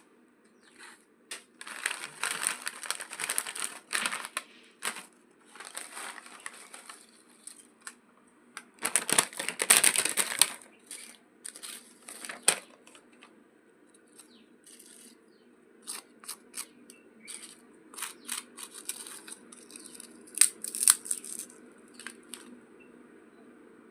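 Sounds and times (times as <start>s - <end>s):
plastic snack packet crinkling: 1.4s - 8.0s, 8.6s - 13.3s, 14.0s - 15.2s, 15.8s - 22.5s.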